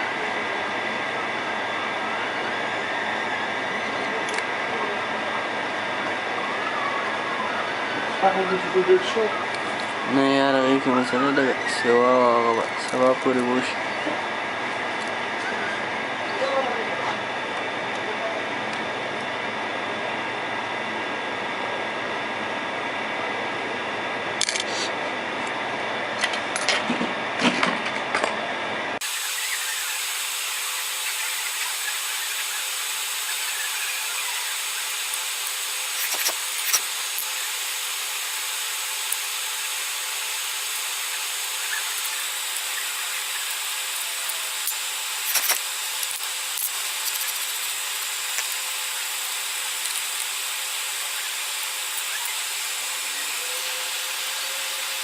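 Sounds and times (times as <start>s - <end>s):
hot air station hissing: 0.0s - 20.4s, 29.0s - 55.0s.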